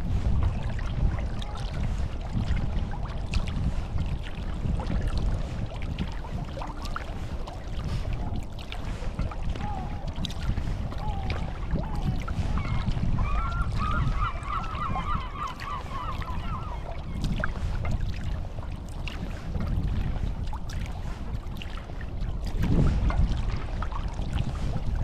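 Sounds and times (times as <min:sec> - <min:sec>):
paddle strokes in water: 0:00.0 - 0:25.0
wind rumbling on microphone: 0:00.0 - 0:25.0
water birds calling: 0:00.1 - 0:25.0.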